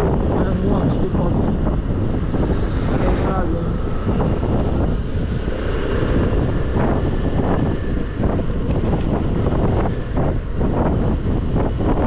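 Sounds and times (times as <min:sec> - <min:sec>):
scooter engine and road noise: 0:00.0 - 0:12.0
wind buffeting microphone: 0:00.0 - 0:12.0.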